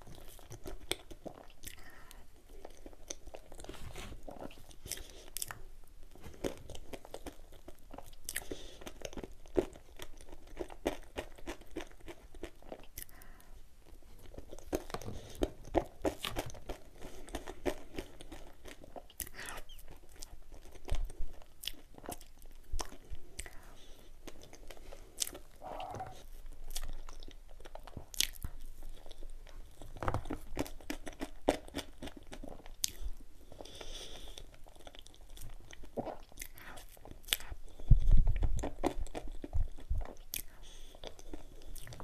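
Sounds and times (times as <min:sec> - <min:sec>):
person chewing and smacking: 0:00.0 - 0:42.0.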